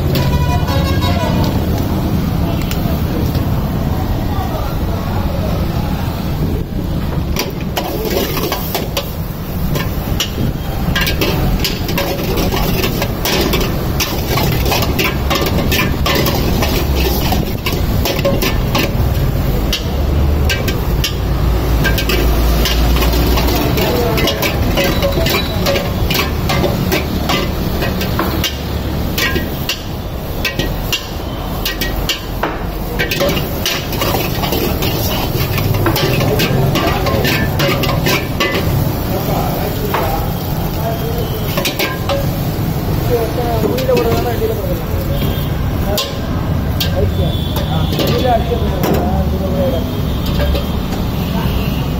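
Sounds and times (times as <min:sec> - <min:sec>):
ladle clanging against a wok: 0:07.2 - 0:40.5, 0:41.4 - 0:43.0, 0:43.6 - 0:49.2, 0:50.1 - 0:51.2.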